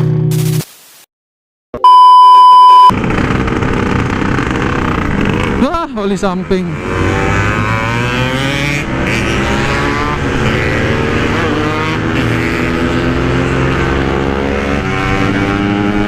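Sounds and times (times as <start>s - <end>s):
motorcycle engine running: 2.9s - 16.0s.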